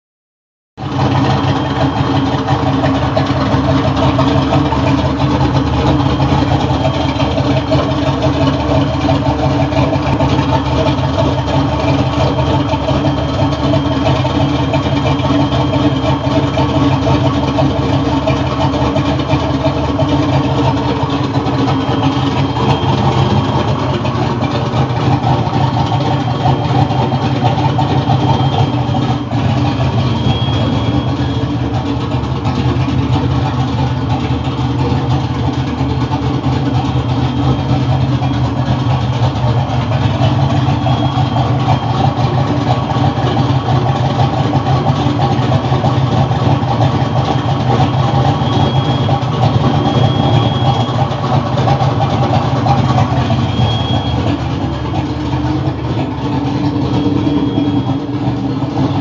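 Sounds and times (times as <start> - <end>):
engine idling: 0.8 - 59.0.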